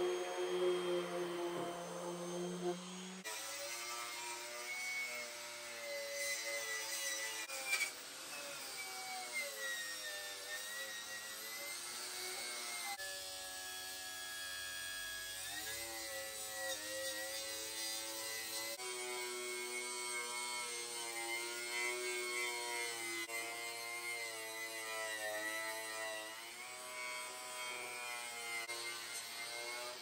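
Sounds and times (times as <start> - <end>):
angle grinder on metal: 0.0 - 30.0.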